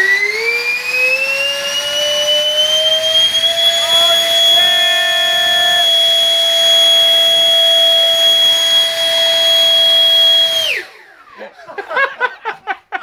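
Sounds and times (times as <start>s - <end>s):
model jet engine whine: 0.0s - 11.3s.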